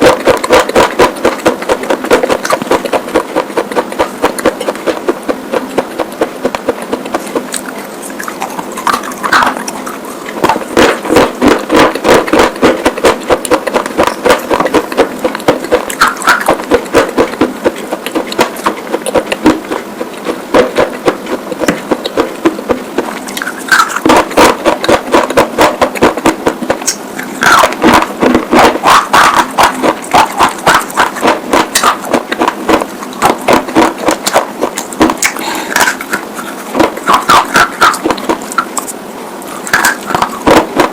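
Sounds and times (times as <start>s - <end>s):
crunching and chewing slate: 0.0s - 38.9s, 39.5s - 40.9s.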